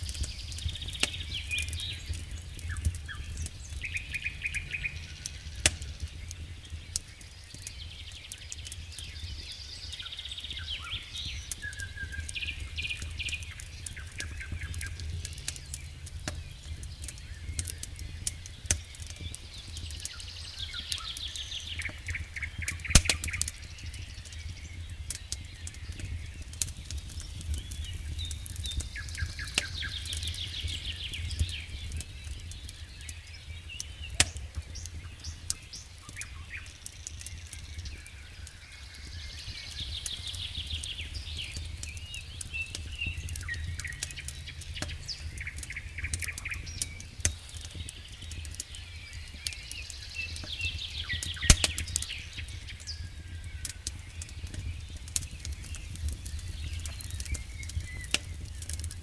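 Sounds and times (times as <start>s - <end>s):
birds singing trills and chirps: 0.0s - 59.0s
campfire crackling and popping: 0.0s - 59.0s.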